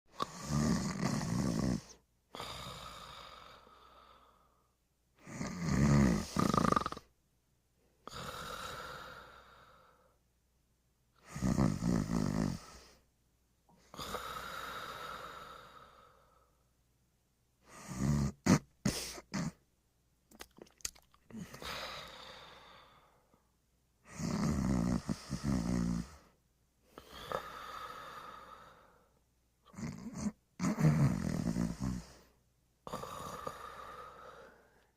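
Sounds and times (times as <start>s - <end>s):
person snoring: 0.1s - 7.1s, 8.0s - 10.2s, 11.2s - 13.0s, 13.7s - 16.6s, 17.6s - 19.6s, 21.3s - 23.3s, 24.0s - 34.9s.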